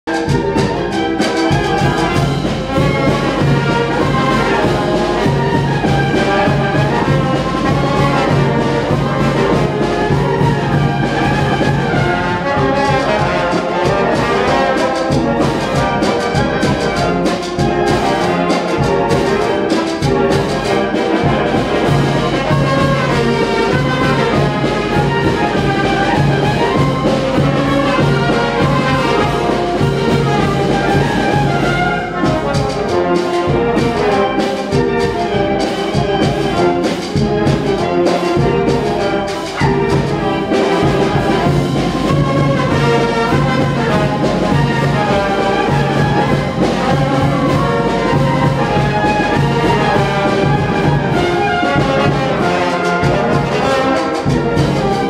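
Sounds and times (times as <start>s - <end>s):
brass band playing dance tune: 0.0s - 55.0s.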